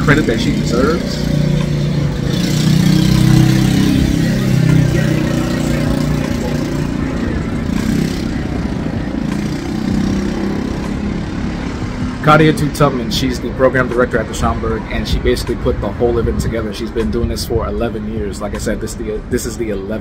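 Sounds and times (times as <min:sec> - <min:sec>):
traffic noise: 0:00.0 - 0:20.0
vehicle engine running: 0:00.0 - 0:20.0.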